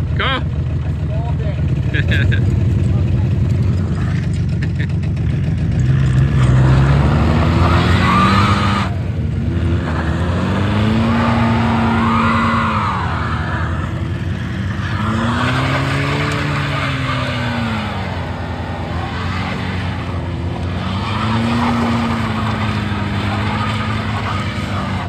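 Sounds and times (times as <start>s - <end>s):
car engines revving under load: 0.0s - 25.0s.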